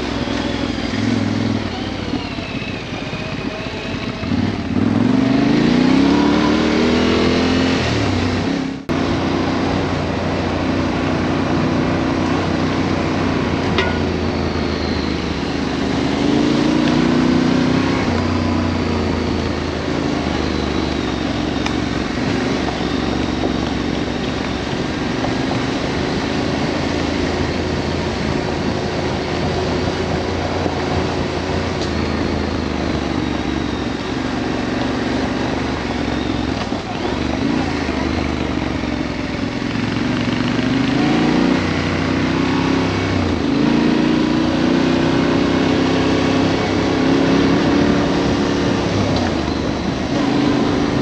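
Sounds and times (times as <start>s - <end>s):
motorcycle engine running: 0.0s - 51.0s
wind and road noise: 0.0s - 51.0s.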